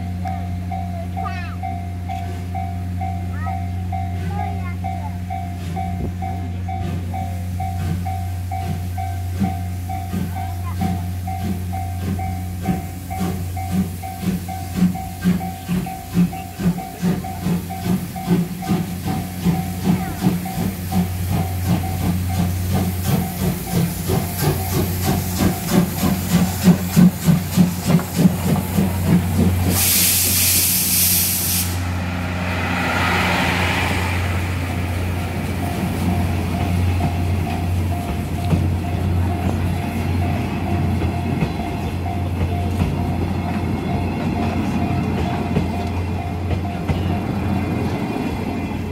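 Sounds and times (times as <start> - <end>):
steam locomotive hissing: 0.0 - 48.9
train coaches rolling by: 0.0 - 48.9.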